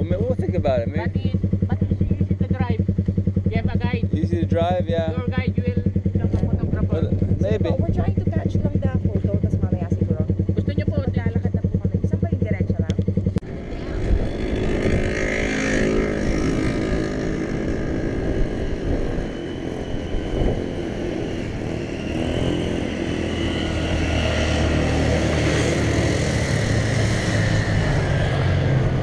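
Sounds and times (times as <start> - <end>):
vehicle engines droning: 0.0 - 29.0.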